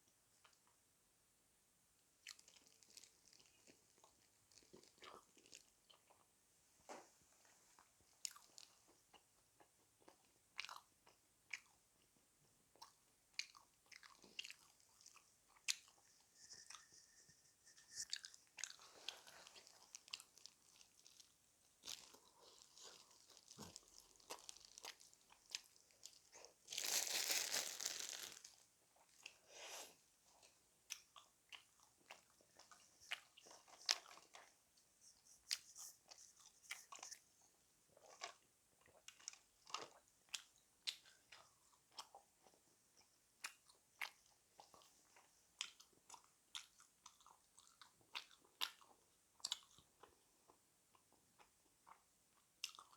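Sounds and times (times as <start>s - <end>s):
chewing crispy fried chicken: 2.2s - 6.4s, 7.8s - 52.9s.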